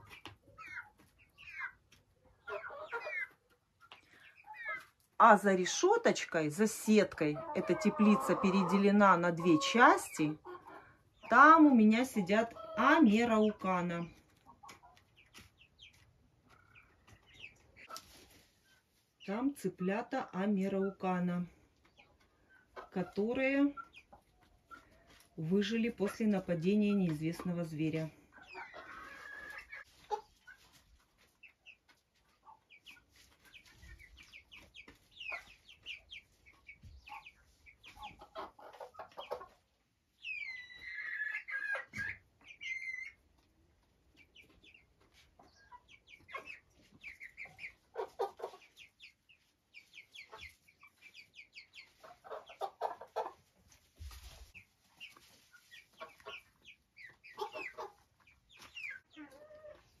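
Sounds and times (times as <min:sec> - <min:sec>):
chickens clucking: 0:00.0 - 1:00.0.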